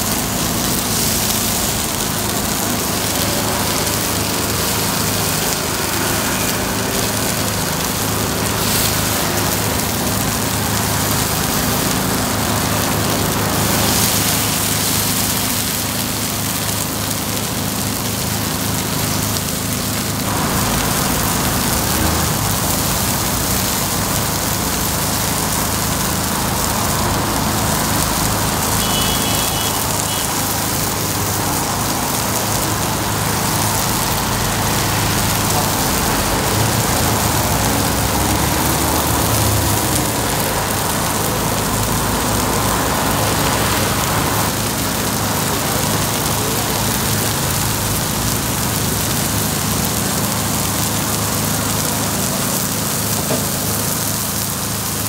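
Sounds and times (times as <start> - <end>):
batter sizzling on griddle: 0.0 - 55.0.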